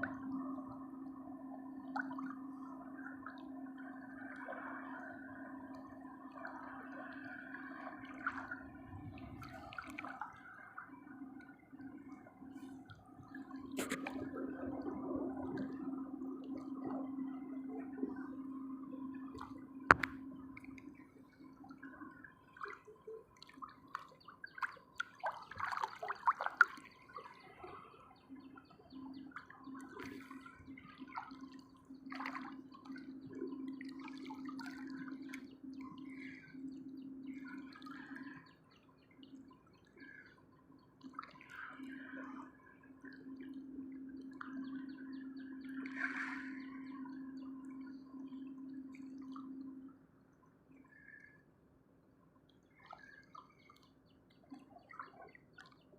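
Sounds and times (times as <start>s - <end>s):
sea water sloshing and gurgling: 0.0s - 51.4s, 52.4s - 55.9s.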